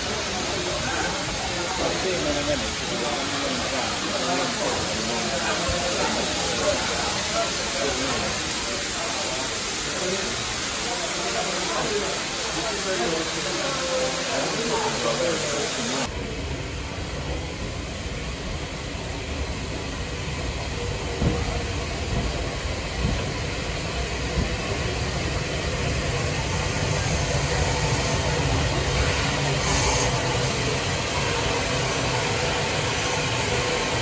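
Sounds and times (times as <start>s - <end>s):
steam locomotive rumble and hiss: 0.0s - 34.0s.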